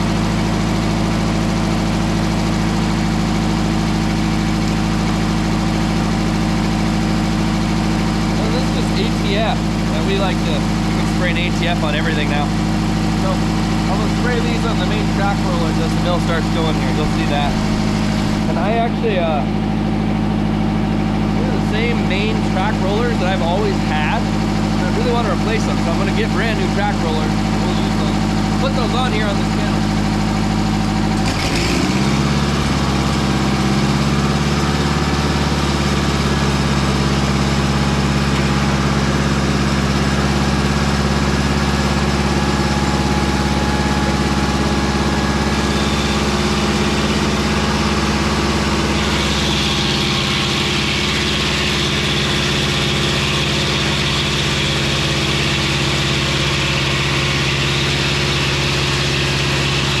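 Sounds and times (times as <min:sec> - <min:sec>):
sawmill engine running: 0:00.0 - 1:00.0
high whine: 0:08.3 - 0:20.2, 0:21.2 - 0:29.9, 0:32.1 - 1:00.0.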